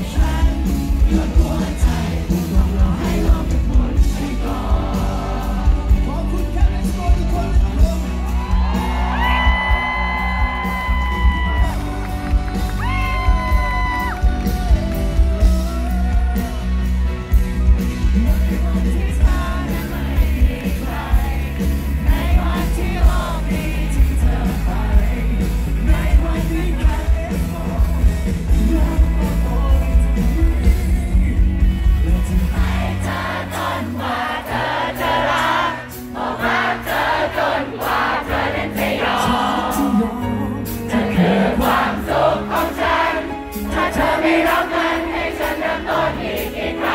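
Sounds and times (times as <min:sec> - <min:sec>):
live pop ballad from a band: 0:00.0 - 0:46.9
man singing lead vocals: 0:00.0 - 0:46.9.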